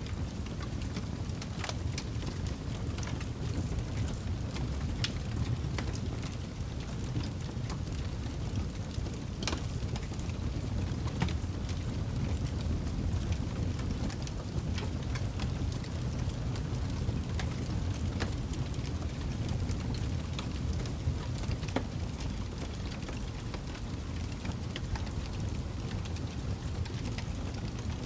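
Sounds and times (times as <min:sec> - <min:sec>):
campfire crackling: 0:00.1 - 0:28.0.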